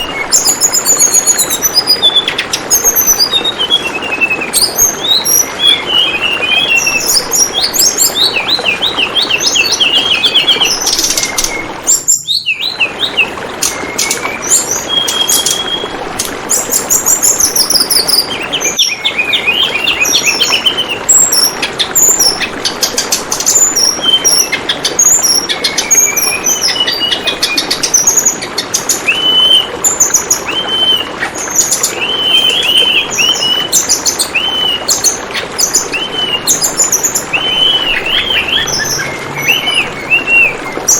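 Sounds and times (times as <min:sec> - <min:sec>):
birds chirping and whistling: 0:00.0 - 0:40.9
water trickling: 0:00.0 - 0:40.9.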